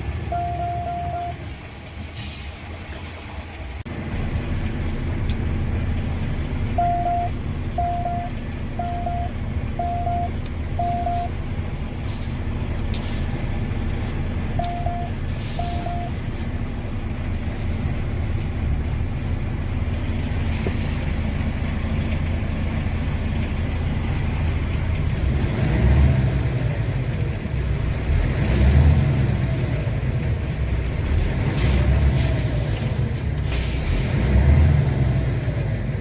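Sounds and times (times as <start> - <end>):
diesel engine rumbling and revving: 0.0 - 36.0.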